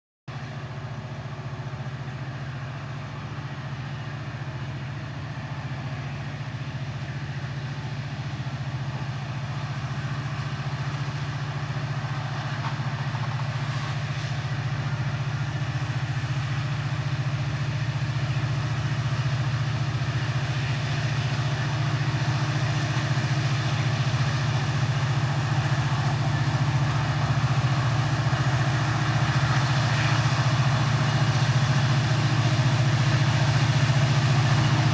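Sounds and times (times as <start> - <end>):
locomotive engine drone: 0.3 - 34.9.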